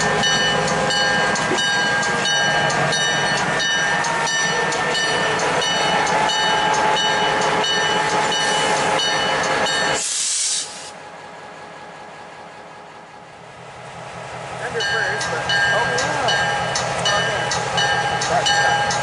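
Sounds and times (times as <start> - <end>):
train wheels clicking over rail joints: 0.0 - 10.9, 14.7 - 19.0.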